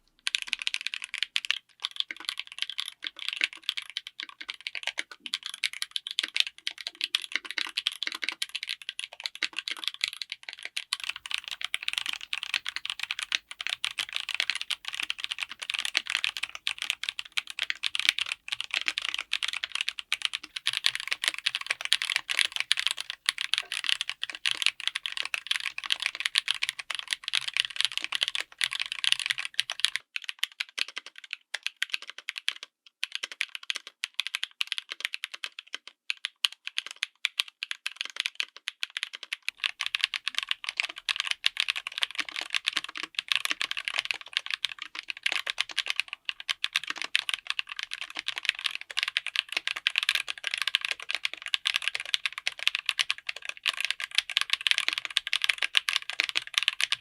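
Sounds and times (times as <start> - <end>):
mechanical keyboard typing: 0.2 - 57.0.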